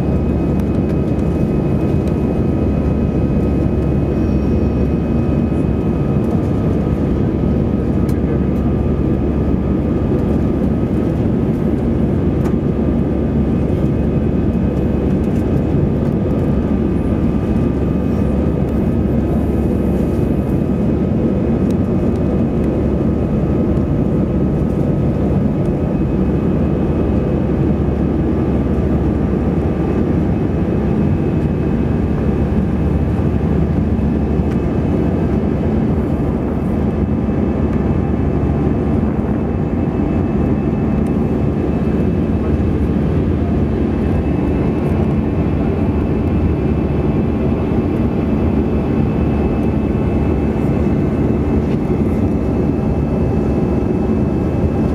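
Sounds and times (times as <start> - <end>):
jet engine and airflow rumble: 0.0 - 54.9.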